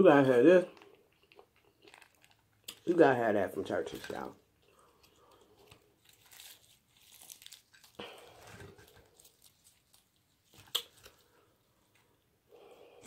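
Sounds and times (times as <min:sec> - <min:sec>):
plastic packet crinkling: 0:00.6 - 0:11.4
crispy breading crackling: 0:00.6 - 0:11.6.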